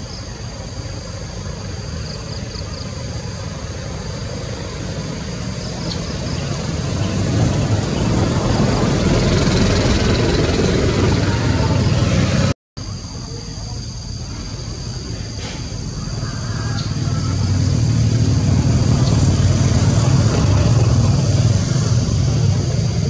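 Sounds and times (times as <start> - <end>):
distant engine rumble: 0.0 - 23.0.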